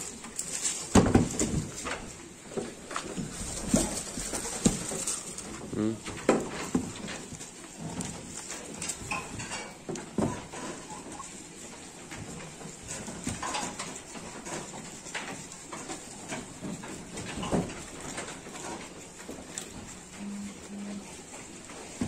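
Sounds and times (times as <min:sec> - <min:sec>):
sheep chewing dry leaves: 0:00.0 - 0:22.0.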